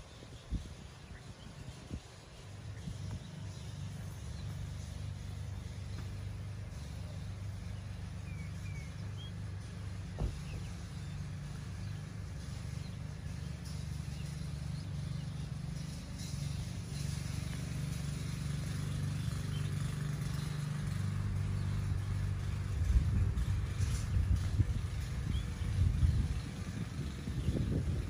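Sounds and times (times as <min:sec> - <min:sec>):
low rumbling background noise: 0:00.0 - 0:28.0.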